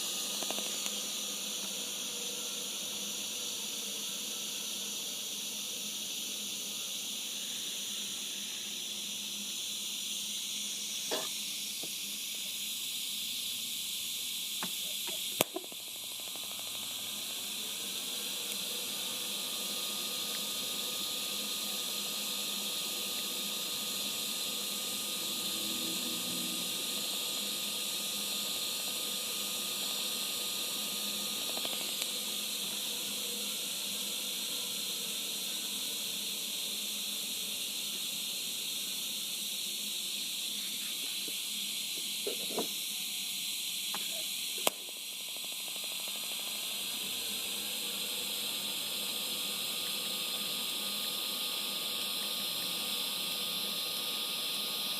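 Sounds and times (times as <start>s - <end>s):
welding arc hissing: 0.0s - 54.9s.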